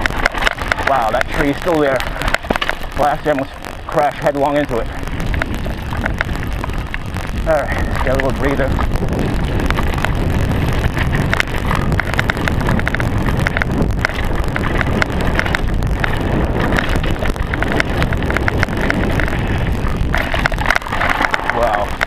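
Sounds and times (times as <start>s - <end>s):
bike rattling clicks: 0.0s - 22.0s
tyre rumble on dirt: 0.0s - 22.0s
wind on microphone: 0.0s - 22.0s.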